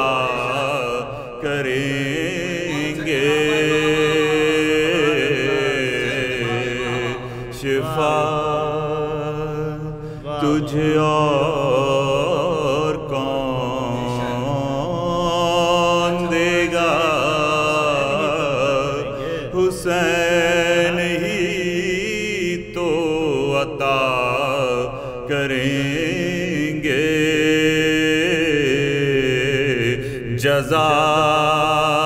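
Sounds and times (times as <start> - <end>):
man singing devotional song: 0.0 - 32.0.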